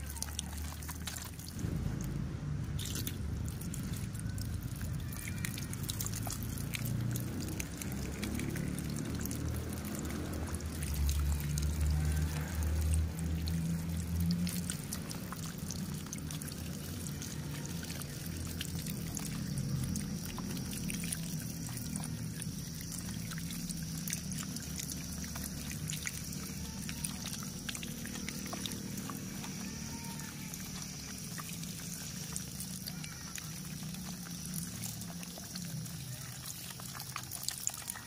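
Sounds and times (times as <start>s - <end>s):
water dripping: 0.0s - 38.0s
water splashing on plastic toys: 0.0s - 38.0s.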